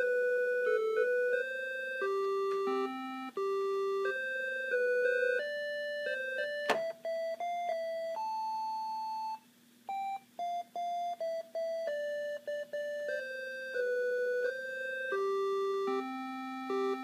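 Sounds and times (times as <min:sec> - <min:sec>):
mini keyboard beep-like melody: 0:00.0 - 0:17.0.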